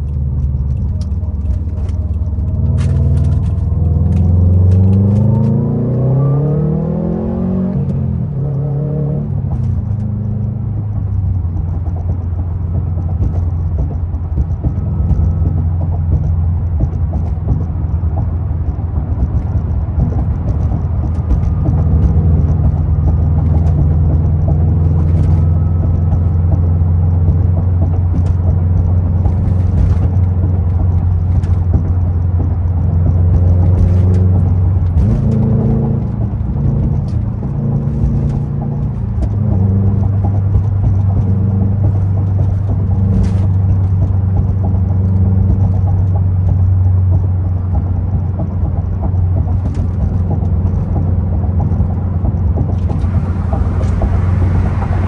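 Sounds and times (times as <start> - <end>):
car engine droning while driving: 0.0 - 55.0.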